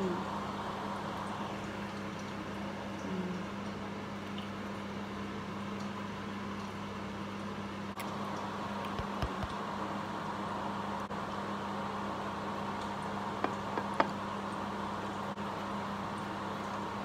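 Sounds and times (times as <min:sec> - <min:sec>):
appliance or fan humming: 0:00.0 - 0:17.0.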